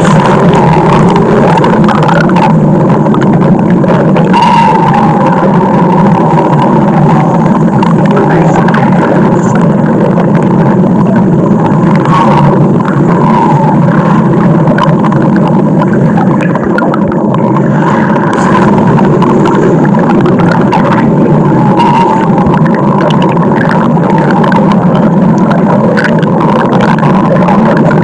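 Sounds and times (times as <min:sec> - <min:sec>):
stomach growling: 0:00.0 - 0:28.0.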